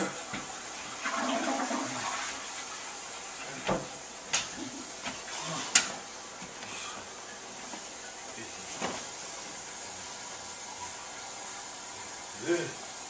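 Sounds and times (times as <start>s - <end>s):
water rushing like a flush: 0.0s - 13.0s.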